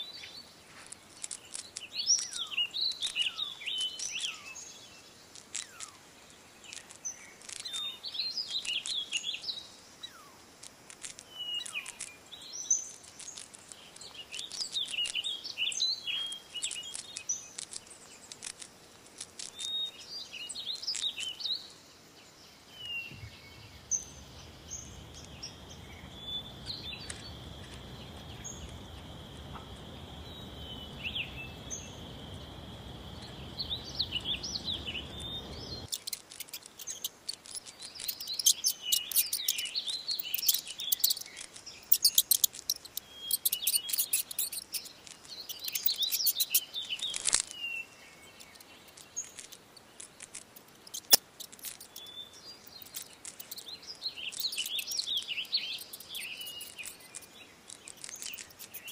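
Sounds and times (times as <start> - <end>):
low hiss: 0.0 - 58.9
small birds chirping: 0.0 - 58.9.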